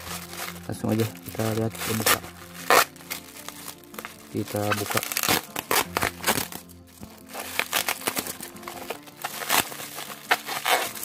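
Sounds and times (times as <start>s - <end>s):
background music: 0.0s - 11.0s
bubble wrap crinkling: 0.0s - 11.0s.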